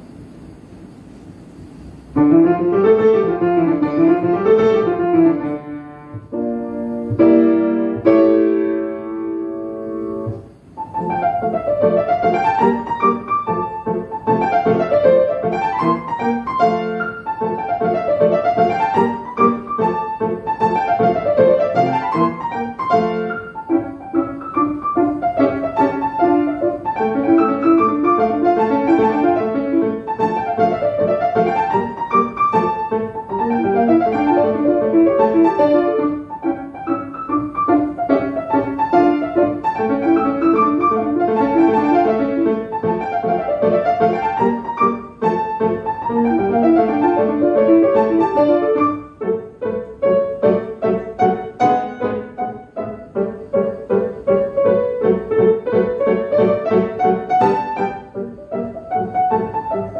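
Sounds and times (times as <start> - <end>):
solo classical piano: 0.0 - 59.9.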